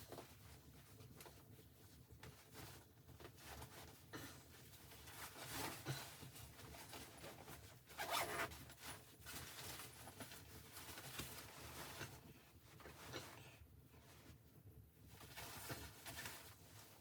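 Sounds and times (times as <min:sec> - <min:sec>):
faint rustling and scraping: 0:00.0 - 0:17.0.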